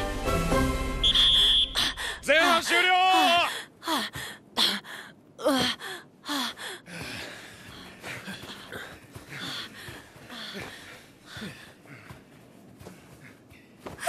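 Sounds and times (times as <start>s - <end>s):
boy panting and gasping: 1.4s - 2.6s, 3.2s - 14.0s.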